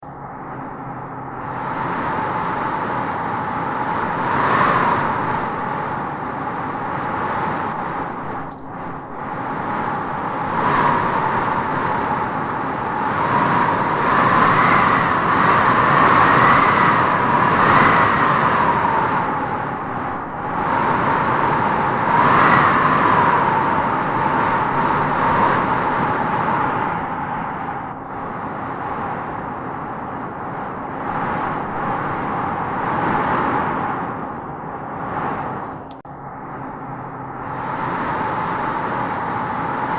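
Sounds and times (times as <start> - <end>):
wind howling in gusts: 0.0 - 39.9.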